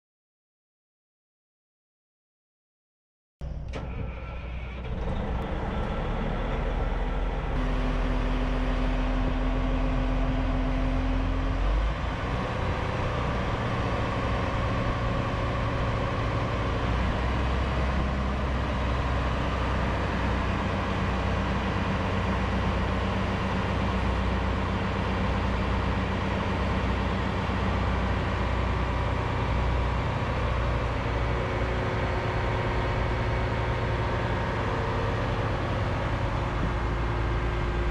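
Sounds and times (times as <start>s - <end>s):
diesel engine rumbling: 3.4s - 37.9s.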